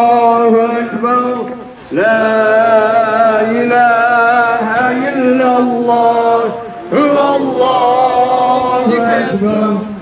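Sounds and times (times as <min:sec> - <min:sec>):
man chanting a recitation: 0:00.0 - 0:10.0.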